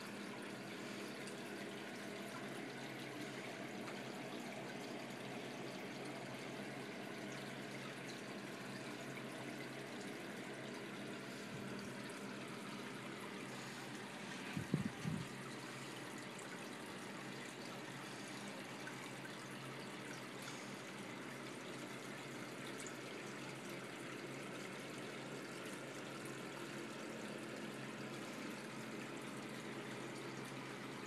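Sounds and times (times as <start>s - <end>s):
aquarium water trickling: 0.0s - 31.0s.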